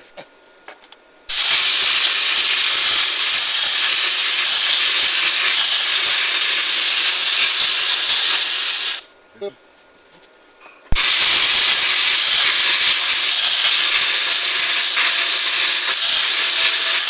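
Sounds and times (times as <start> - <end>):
plasma cutter hissing: 1.3 - 9.1, 10.9 - 17.0.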